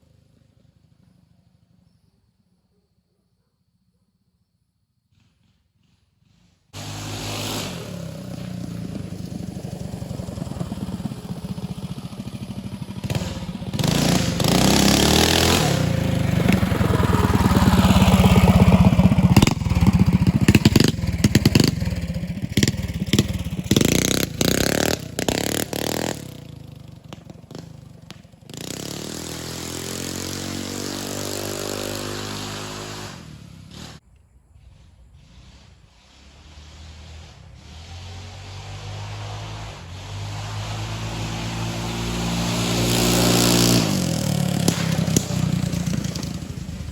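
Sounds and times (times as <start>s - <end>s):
mini bike engine revving: 5.2s - 34.0s, 34.6s - 46.9s.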